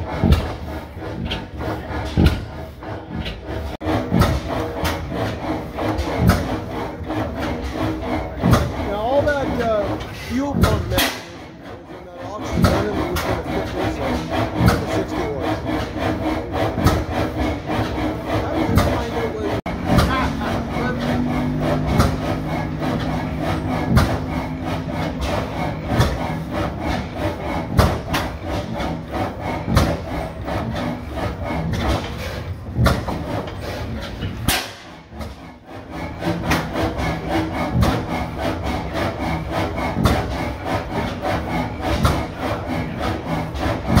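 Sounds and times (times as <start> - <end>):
stationary engine clattering: 0.0 - 44.0.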